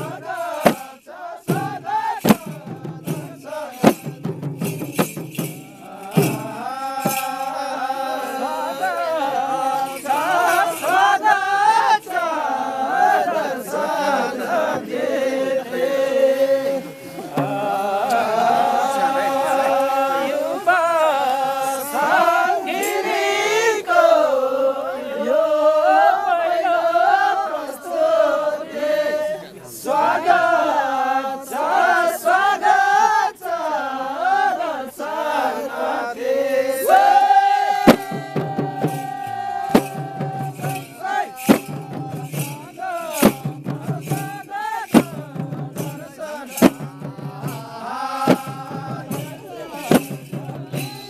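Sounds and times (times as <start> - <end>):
group of voices singing: 0.0 - 51.0.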